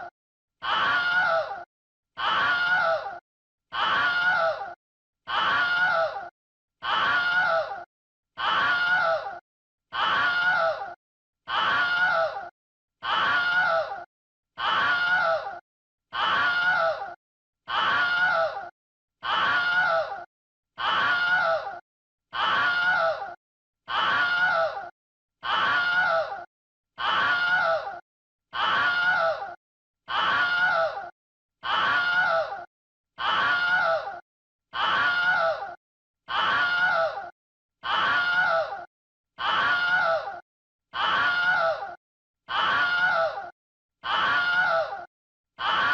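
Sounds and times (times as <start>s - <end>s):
person screaming: 0.6s - 40.4s, 41.0s - 45.9s.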